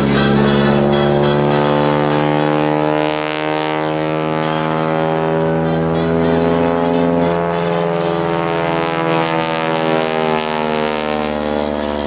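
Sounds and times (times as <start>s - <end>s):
biplane engine and propeller drone: 0.0s - 12.0s.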